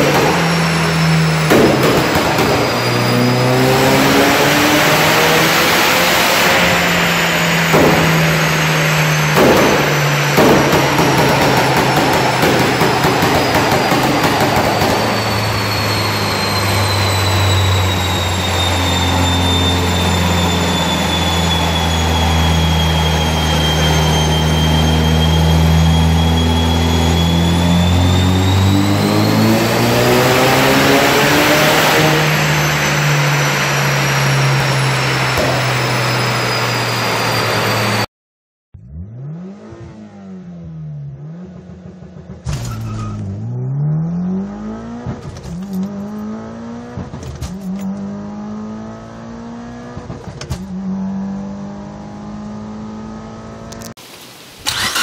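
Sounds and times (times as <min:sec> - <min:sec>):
engine revving through gear changes: 0:00.0 - 0:38.1, 0:38.7 - 0:54.0, 0:54.7 - 0:55.0
high turbo whine: 0:00.0 - 0:38.1, 0:38.8 - 0:54.0, 0:54.6 - 0:55.0
turbocharged engine on dyno: 0:00.0 - 0:38.1, 0:38.8 - 0:54.0.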